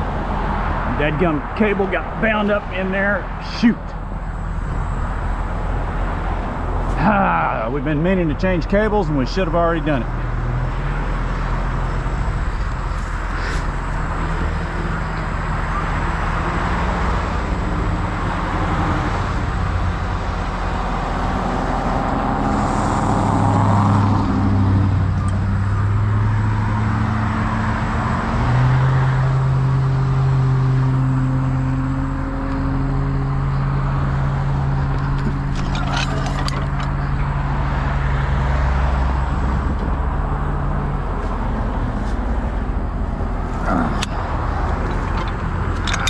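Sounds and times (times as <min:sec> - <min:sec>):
cars passing: 0:00.0 - 0:46.0
truck diesel engine droning: 0:00.0 - 0:46.0.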